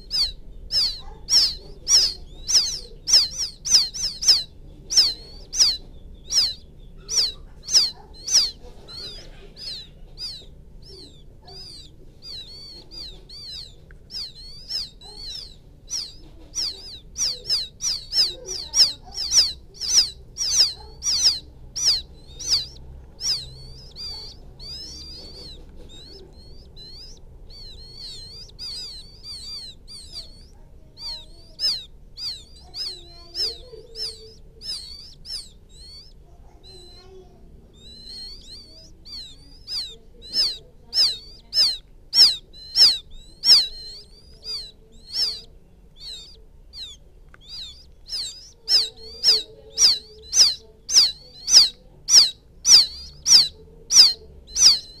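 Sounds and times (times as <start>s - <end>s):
quail chicks peeping: 0.0s - 55.0s.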